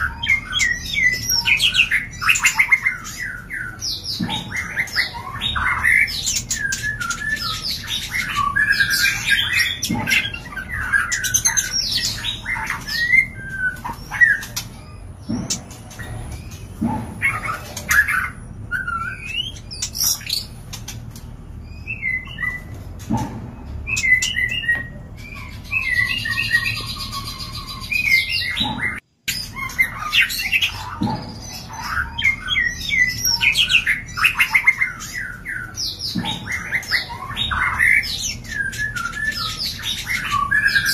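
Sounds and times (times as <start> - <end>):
birds chirping and whistling: 0.0 - 40.9
harsh squawk-like bird notes: 0.0 - 40.9.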